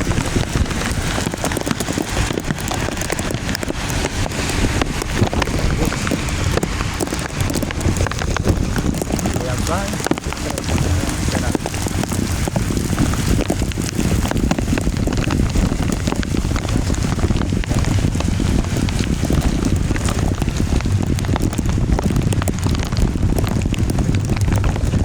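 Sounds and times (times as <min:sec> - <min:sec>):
heavy rain pouring: 0:00.0 - 0:25.0
steady low rumble: 0:00.0 - 0:25.0.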